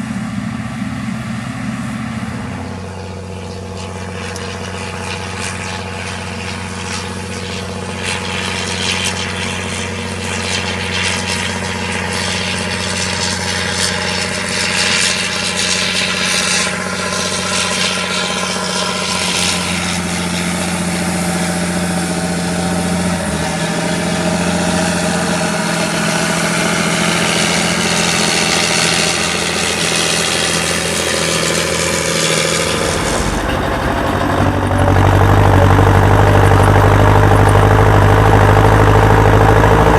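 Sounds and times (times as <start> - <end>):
constant rushing noise: 0.0 - 39.9
diesel engine droning: 0.0 - 39.9.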